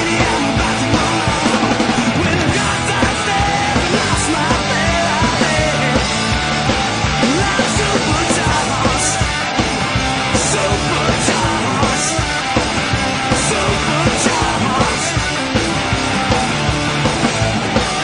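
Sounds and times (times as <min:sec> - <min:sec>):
loud rock music: 0:00.0 - 0:18.0.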